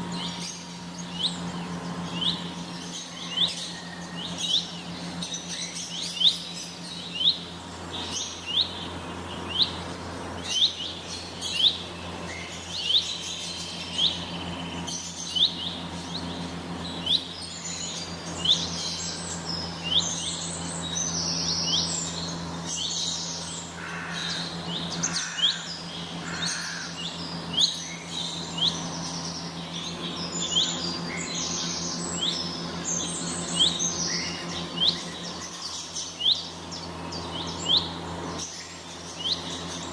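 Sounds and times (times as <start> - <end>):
bird repeating rising chirp: 0.0 - 39.9
birds chirping and calling: 0.0 - 39.9
steady low hum: 0.0 - 39.9.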